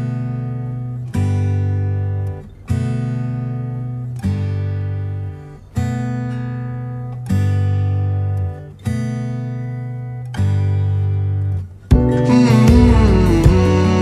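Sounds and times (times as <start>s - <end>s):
slow strummed guitar chords: 0.0s - 14.0s.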